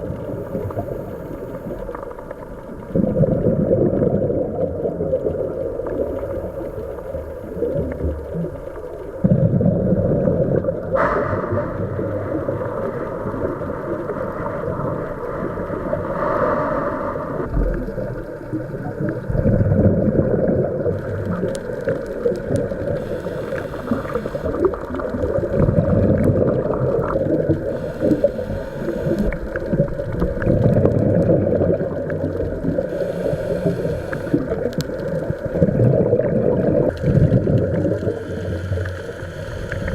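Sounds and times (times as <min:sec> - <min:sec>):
muffled underwater rumble: 0:00.0 - 0:39.9
regulator bubbles hissing: 0:00.0 - 0:39.9.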